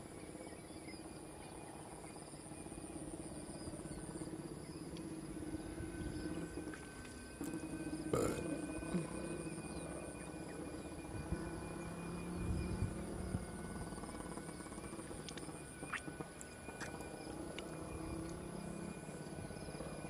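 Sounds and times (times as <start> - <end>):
high pulsing chirr: 0.0 - 20.0
kite hummer droning: 0.0 - 20.0.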